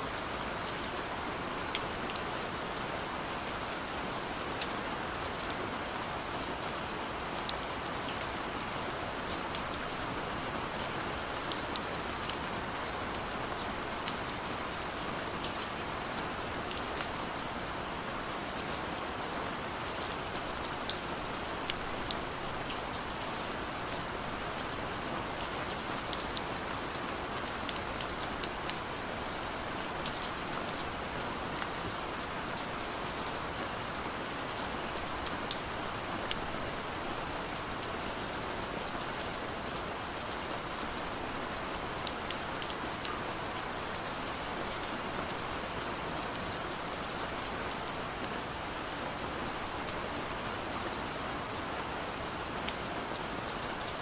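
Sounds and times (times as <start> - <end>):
raindrops ticking on a surface: 0.1 - 54.0.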